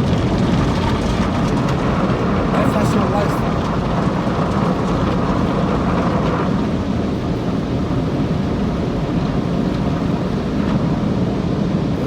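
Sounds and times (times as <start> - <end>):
car wash water spray rumble: 0.0 - 12.0.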